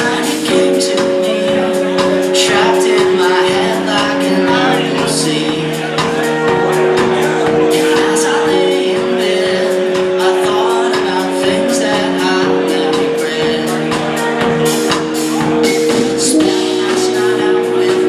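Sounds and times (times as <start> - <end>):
drums and cymbals beat: 0.0 - 18.0
live band playing: 0.0 - 18.0.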